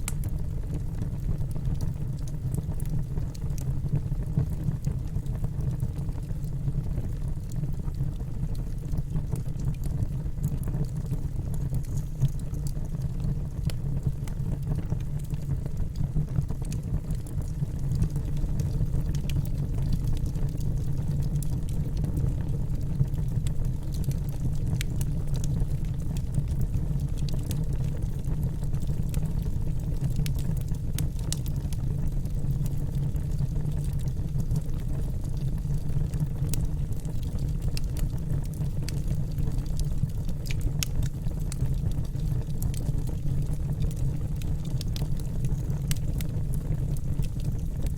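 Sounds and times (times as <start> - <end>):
bonfire crackling and popping: 0.0 - 47.9
rain: 5.9 - 47.9.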